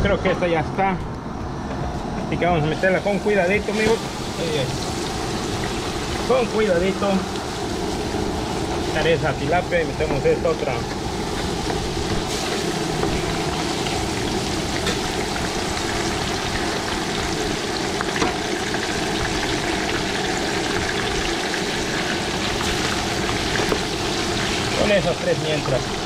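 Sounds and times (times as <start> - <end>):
fish frying in hot oil: 2.7 - 26.0
oil popping: 3.7 - 25.2.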